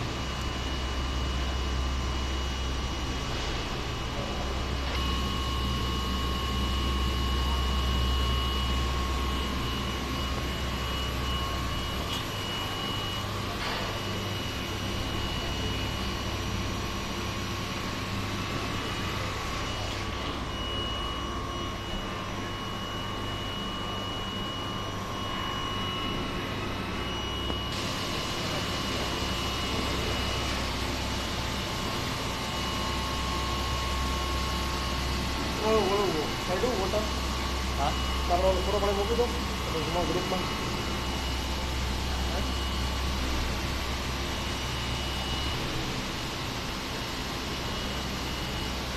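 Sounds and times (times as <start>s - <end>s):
machinery drone: 0.0s - 48.9s
thin high whine: 0.0s - 48.9s.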